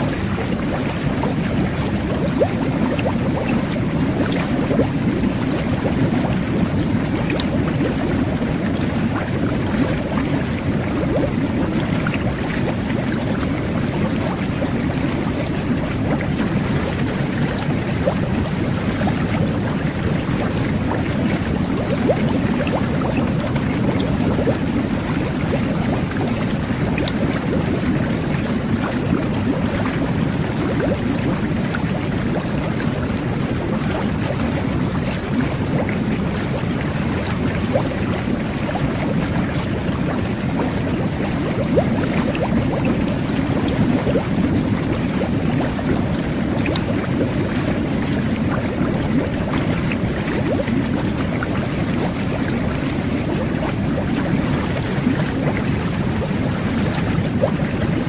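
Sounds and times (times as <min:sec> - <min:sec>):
whirlpool bath jets bubbling water: 0:00.0 - 0:58.0.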